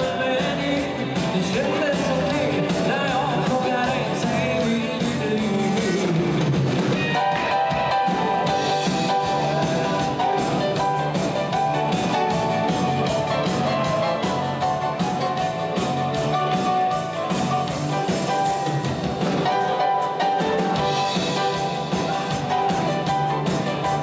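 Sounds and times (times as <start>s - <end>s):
drum kit beat: 0.0s - 24.0s
electric guitar: 0.0s - 24.0s
keyboard playing: 0.0s - 24.0s.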